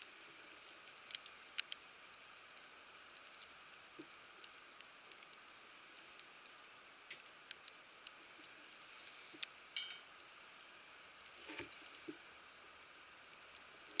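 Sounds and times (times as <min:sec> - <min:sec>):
faint steady hiss: 0:00.0 - 0:14.0
campfire crackling and popping: 0:00.7 - 0:08.8, 0:09.4 - 0:14.0.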